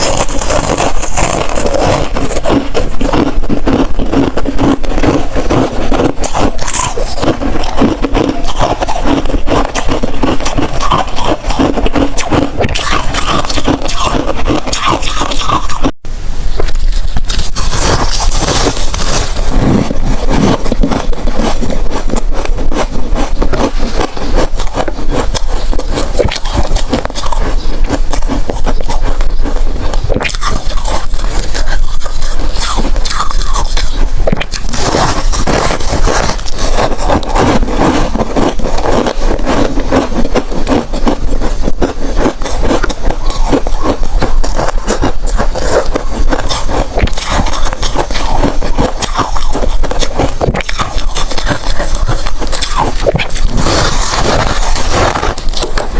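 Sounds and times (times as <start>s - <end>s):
chewing hard ice: 0.0s - 55.9s.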